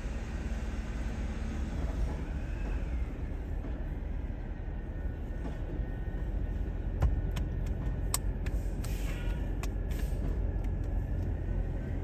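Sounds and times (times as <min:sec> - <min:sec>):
garbage truck rumbling: 0:00.0 - 0:12.0.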